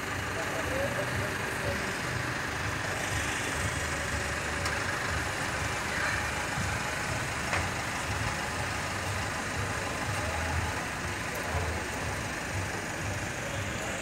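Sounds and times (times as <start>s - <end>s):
pickup truck engine idling: 0.0s - 14.0s.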